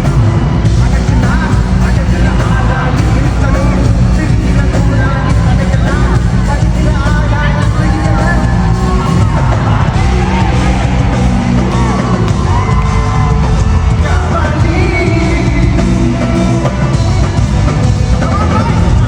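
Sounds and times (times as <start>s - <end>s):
crowd yelling: 0.0s - 19.0s
live concert music over loudspeakers: 0.0s - 19.0s
person singing: 0.0s - 19.0s.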